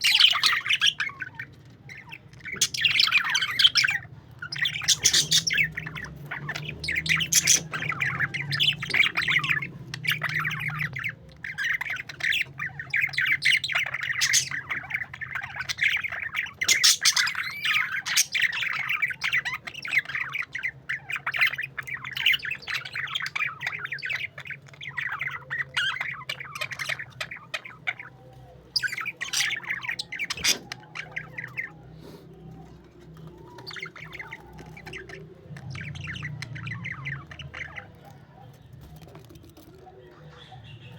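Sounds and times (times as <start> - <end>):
parakeets chattering and squawking: 0.0 - 40.9.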